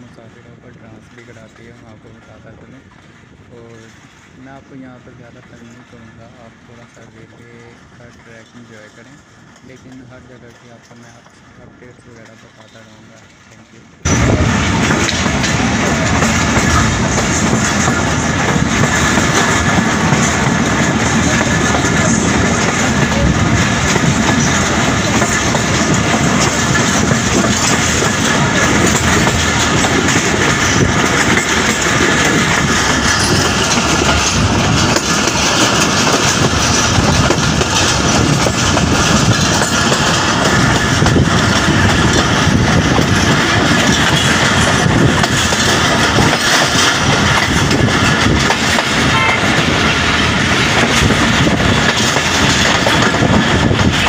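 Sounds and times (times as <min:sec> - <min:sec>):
passenger train rumbling: 0:00.0 - 0:54.0
wheels clattering over rails: 0:06.7 - 0:54.0.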